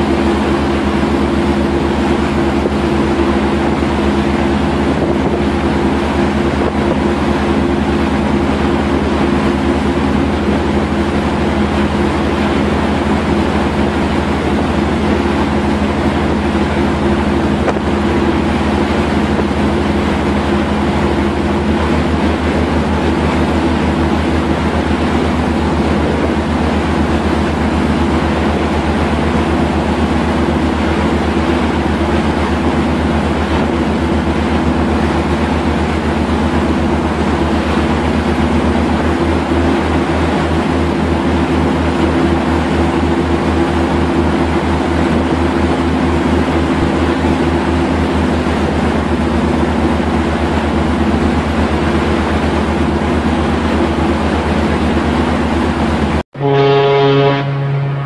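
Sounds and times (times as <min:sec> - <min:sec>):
boat engine throbbing: 0:00.0 - 0:58.0
rushing water and wind: 0:00.0 - 0:58.0.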